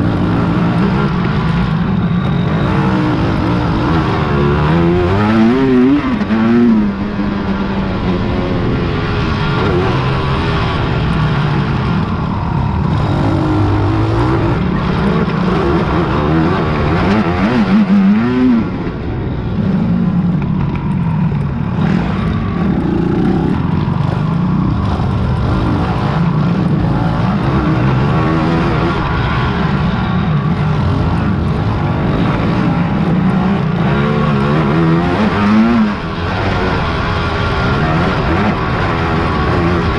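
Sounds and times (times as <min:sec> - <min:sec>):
quad engines revving and passing: 0:00.0 - 0:39.9.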